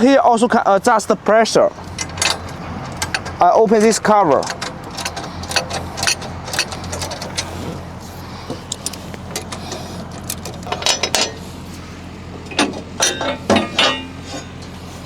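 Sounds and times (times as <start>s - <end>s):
steady low hum: 0.0s - 15.0s
metal cover clicking and clanking: 0.6s - 11.5s, 12.4s - 14.8s.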